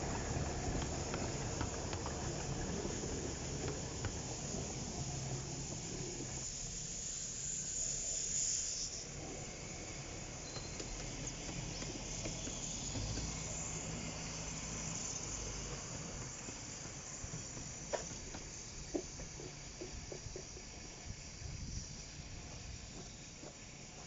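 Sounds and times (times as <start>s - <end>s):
steam locomotive hissing: 0.0s - 24.0s.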